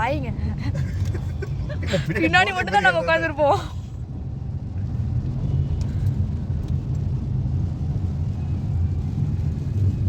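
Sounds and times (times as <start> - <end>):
car engine rumble from inside: 0.0 - 10.0.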